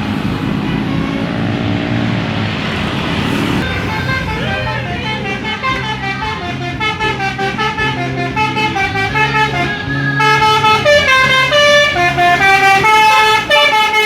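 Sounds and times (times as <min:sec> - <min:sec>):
multi-tone bus horn melody: 0:00.0 - 0:14.0.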